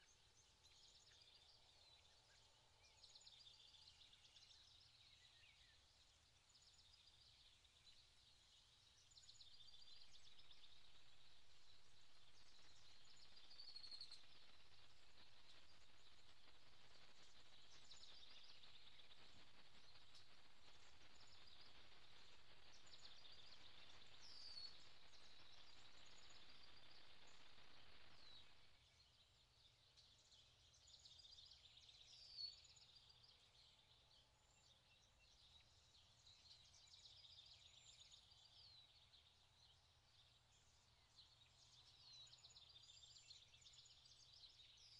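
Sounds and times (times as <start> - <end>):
faint bird chirps: 0.0 - 44.9.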